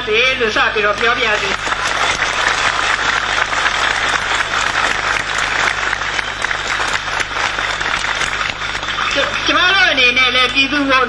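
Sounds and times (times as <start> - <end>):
crowd applauding: 0.9 - 10.1.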